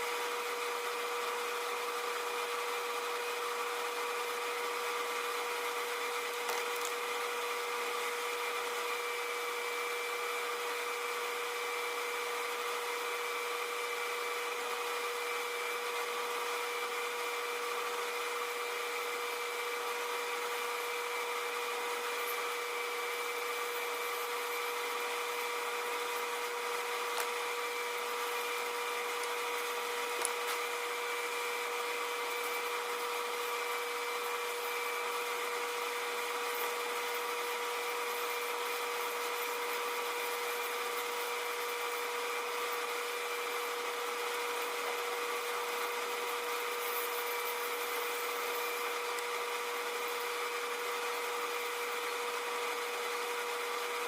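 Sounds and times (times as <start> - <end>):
electric power tool whining: 0.0 - 54.0.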